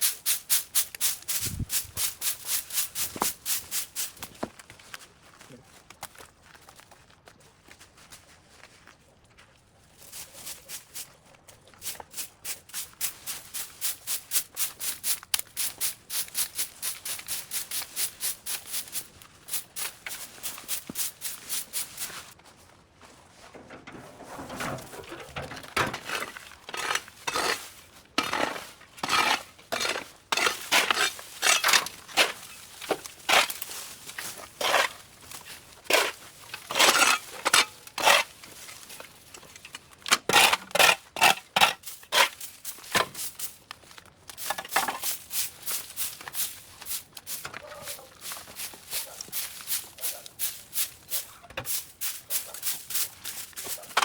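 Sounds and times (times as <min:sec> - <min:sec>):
scraping dry overgrowth: 0:00.0 - 0:54.0.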